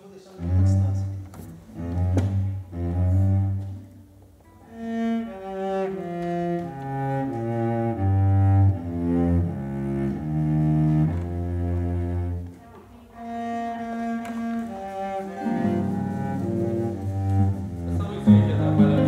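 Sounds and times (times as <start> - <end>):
cello bowed: 0.3 - 19.0.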